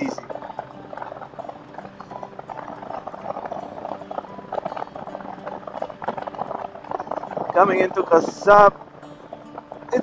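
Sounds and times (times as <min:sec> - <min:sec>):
motorcycle engine crackling rumble: 0:00.0 - 0:10.0.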